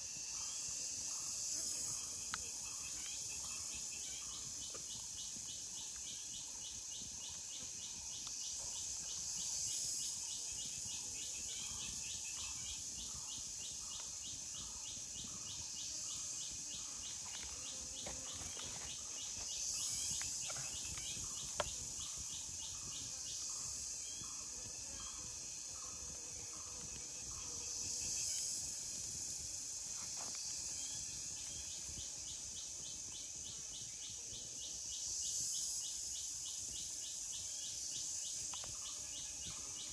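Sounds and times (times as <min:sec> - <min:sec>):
fast pulsing insect call: 0:00.0 - 0:39.9
high shrill insect drone: 0:00.0 - 0:39.9.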